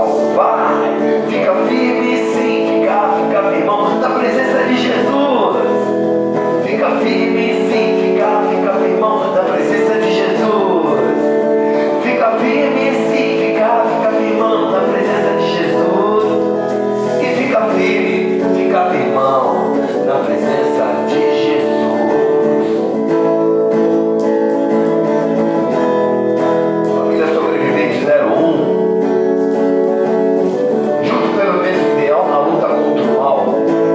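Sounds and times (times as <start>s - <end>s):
guitar instrumental music: 0.0s - 33.9s.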